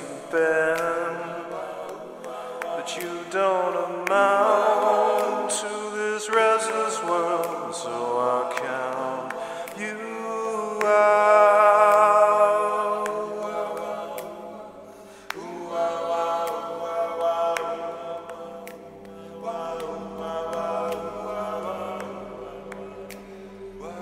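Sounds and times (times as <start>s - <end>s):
choir holding chant-like notes: 0.0s - 24.0s.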